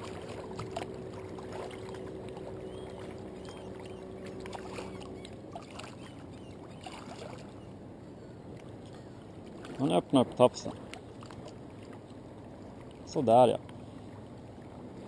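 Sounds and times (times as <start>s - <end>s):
faint steady hum: 0.0s - 15.0s
outdoor background noise: 0.0s - 15.0s.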